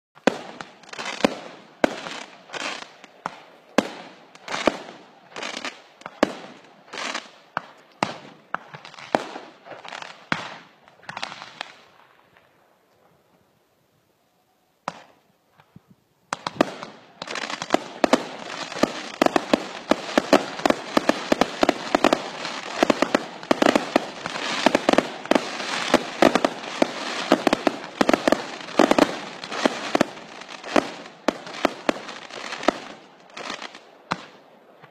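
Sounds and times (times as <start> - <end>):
fireworks bangs: 0.2 - 12.6, 14.8 - 34.9.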